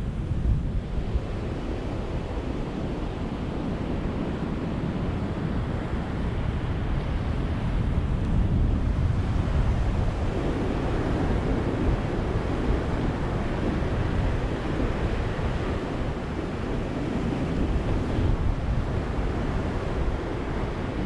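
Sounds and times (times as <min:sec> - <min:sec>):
ocean waves breaking: 0:00.9 - 0:21.0.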